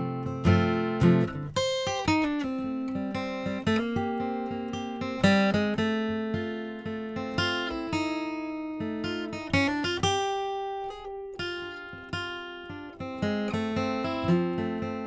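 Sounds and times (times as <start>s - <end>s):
acoustic guitar picking and chords: 0.0s - 15.0s.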